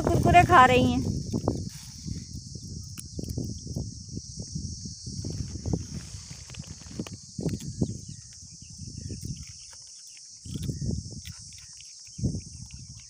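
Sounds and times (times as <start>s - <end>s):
insects chirring: 0.0s - 13.0s
wind gusts on the microphone: 0.0s - 13.0s.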